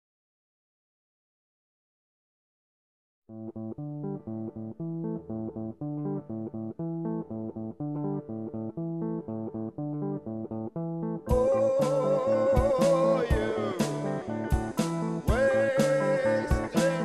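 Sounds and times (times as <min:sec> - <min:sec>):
plucked guitar and bass riff: 0:03.3 - 0:17.0.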